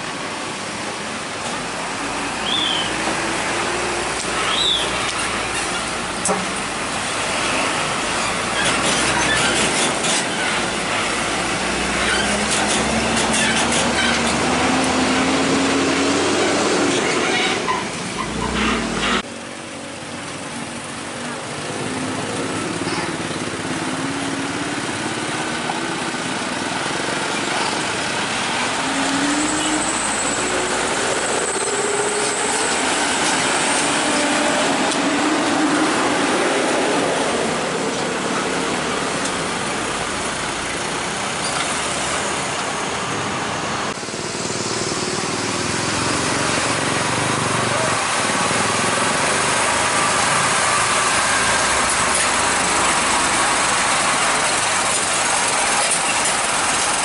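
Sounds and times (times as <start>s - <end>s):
heavy truck diesel engines: 0.0s - 57.0s
steady traffic noise: 0.0s - 57.0s.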